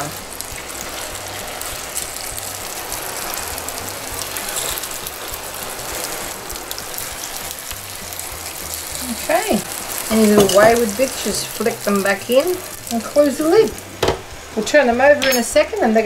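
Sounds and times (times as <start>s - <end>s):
food sizzling in a pie maker: 0.0s - 16.0s.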